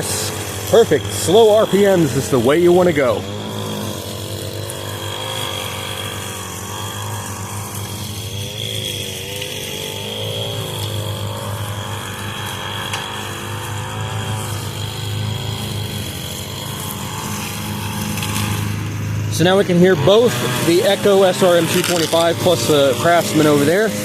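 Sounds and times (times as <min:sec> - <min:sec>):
riding mower engine hum: 0:00.0 - 0:24.0
string trimmer engine wavering: 0:00.0 - 0:24.0.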